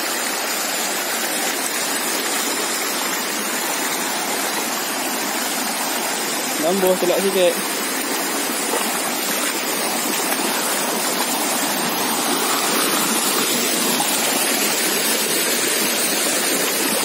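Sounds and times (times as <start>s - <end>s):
stream rushing over stones: 0.0s - 17.0s.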